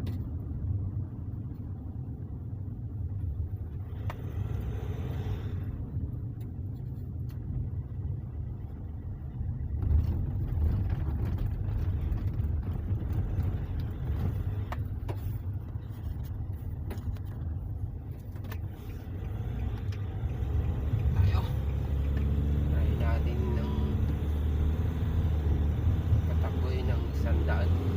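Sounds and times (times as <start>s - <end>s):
car driving low rumble: 0.0s - 27.9s.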